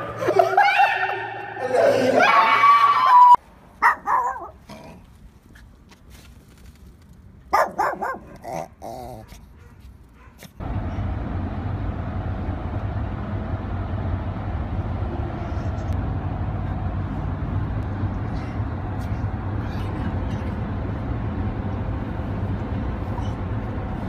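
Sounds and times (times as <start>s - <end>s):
car road and engine noise: 3.4s - 24.0s.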